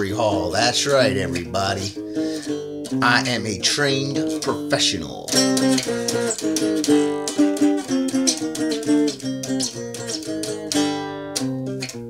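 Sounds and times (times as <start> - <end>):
plucked three-string guitar: 0.0 - 12.0.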